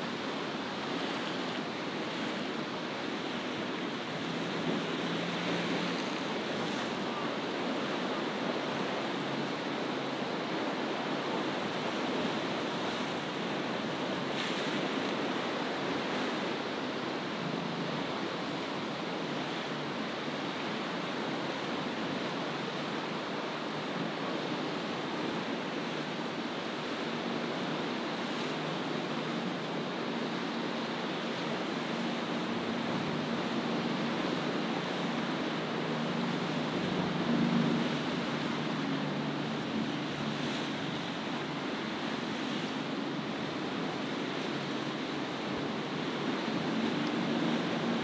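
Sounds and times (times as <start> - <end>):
waves breaking on rough sea: 0.0 - 48.0.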